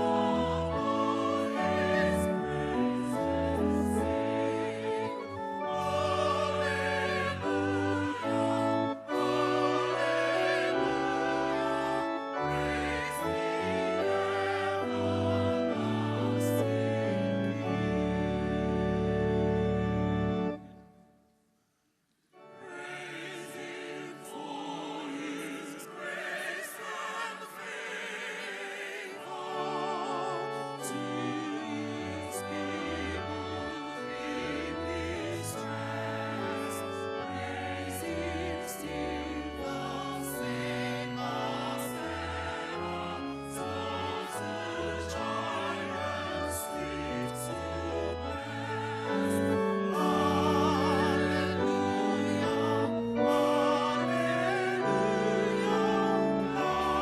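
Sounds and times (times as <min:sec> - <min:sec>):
choir singing a hymn: 0:00.0 - 0:20.6, 0:22.4 - 0:57.0.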